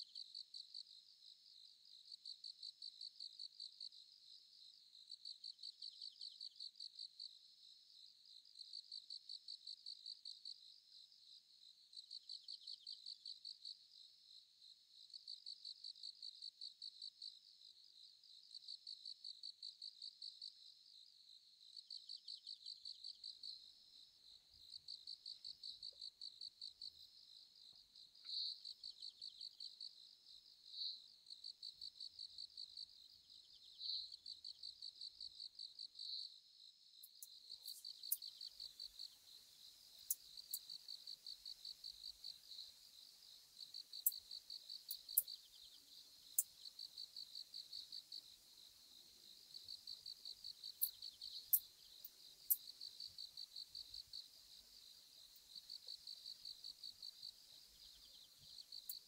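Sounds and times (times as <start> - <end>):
bush-cricket ticking: 0.0 - 14.0, 15.0 - 36.4, 37.0 - 59.0.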